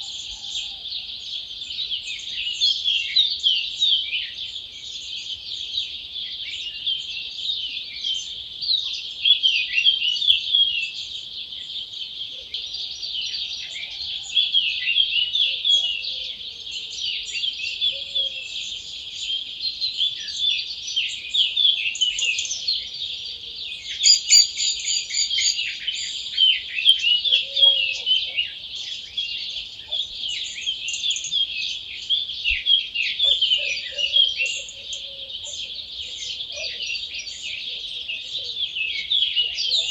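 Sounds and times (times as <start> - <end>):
birds singing in dense chorus: 0.0 - 39.9.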